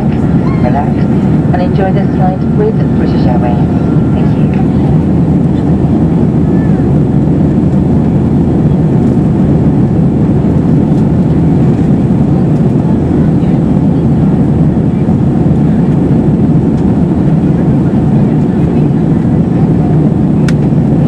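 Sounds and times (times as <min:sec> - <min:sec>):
airflow over fuselage: 0:00.0 - 0:21.0
jet engines droning: 0:00.0 - 0:21.0.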